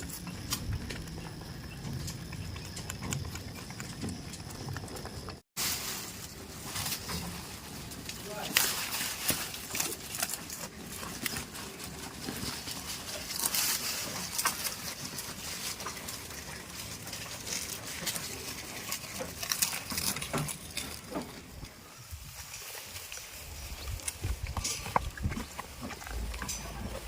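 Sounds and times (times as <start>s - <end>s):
goats rustling: 0.0s - 27.0s.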